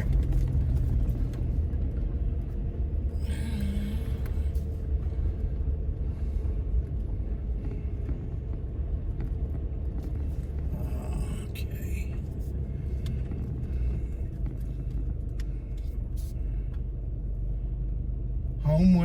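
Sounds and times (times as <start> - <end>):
vehicle rumble from inside cabin: 0.0 - 19.0.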